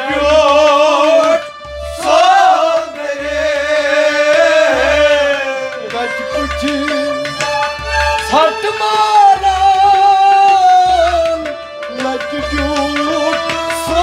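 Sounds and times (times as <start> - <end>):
harmonium: 0.0 - 14.0
men singing: 0.0 - 14.0.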